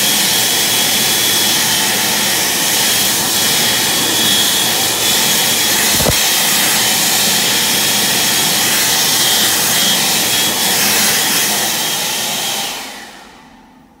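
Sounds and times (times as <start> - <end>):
hand dryer blowing air: 0.0 - 13.5.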